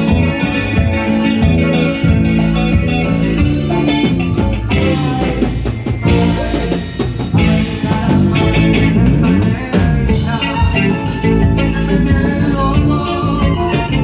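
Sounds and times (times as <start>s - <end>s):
band playing instrumental music: 0.0s - 14.0s.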